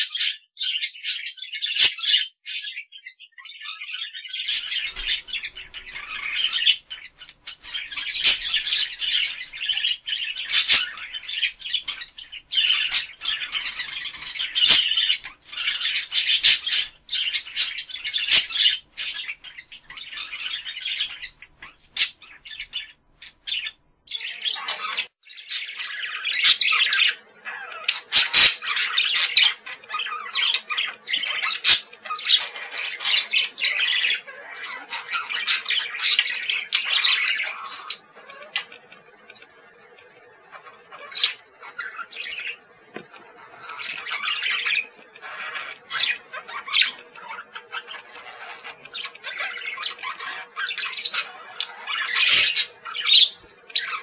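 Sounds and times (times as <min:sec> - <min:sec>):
budgerigar chattering: 0:04.5 - 0:22.9, 0:23.5 - 0:38.9, 0:43.3 - 0:54.0.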